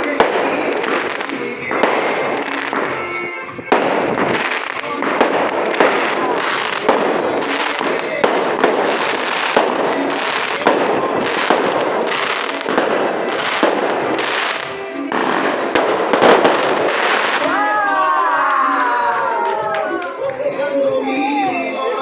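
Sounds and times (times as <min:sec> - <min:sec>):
fireworks cracks and bangs: 0:00.0 - 0:17.6.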